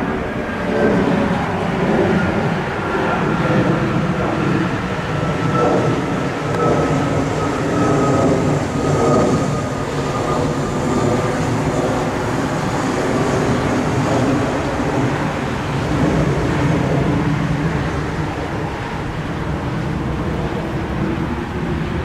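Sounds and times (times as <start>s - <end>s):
airliner engines rumbling: 0.0s - 22.0s
high engine whine: 0.0s - 22.0s.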